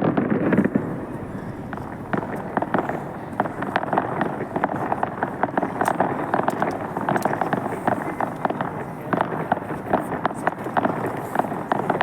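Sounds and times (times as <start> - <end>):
fireworks crackling: 0.0 - 12.0
steady hiss: 0.3 - 12.0.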